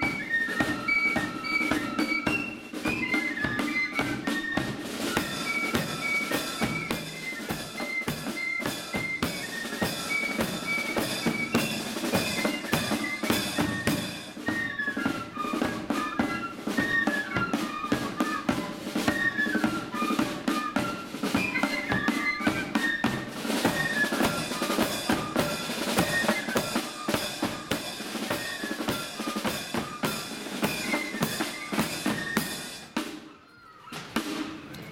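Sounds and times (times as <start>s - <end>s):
flutes playing melody: 0.0s - 34.9s
snare drums: 0.0s - 34.9s.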